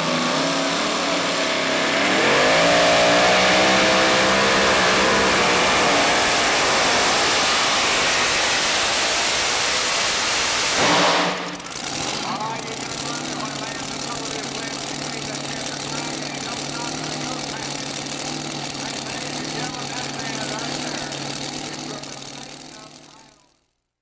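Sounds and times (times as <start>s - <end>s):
supercharged truck engine at full throttle: 0.0s - 23.5s.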